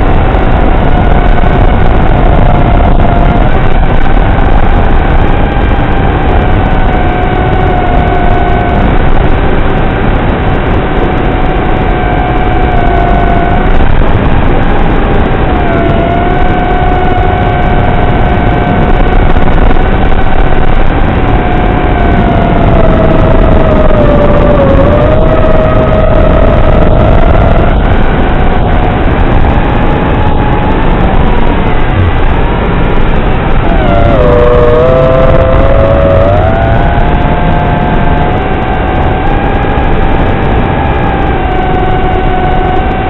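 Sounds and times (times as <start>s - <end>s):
drone motors whining: 0.0s - 43.0s.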